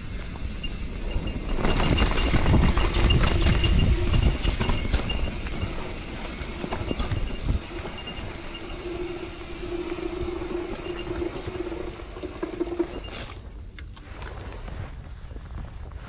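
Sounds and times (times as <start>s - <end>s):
steady hum: 0.0s - 13.1s
bike tyre noise and rattle: 0.0s - 16.0s.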